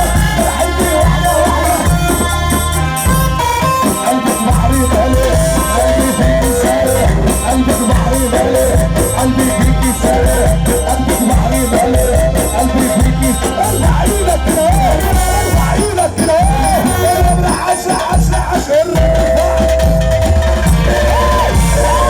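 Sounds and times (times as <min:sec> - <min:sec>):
loud music with pounding bass: 0:00.0 - 0:22.0
person singing: 0:00.0 - 0:22.0.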